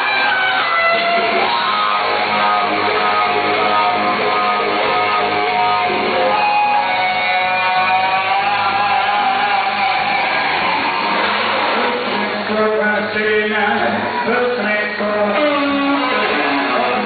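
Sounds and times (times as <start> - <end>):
electric guitar lead bending notes: 0.0 - 17.0
loud rock band: 0.0 - 17.0.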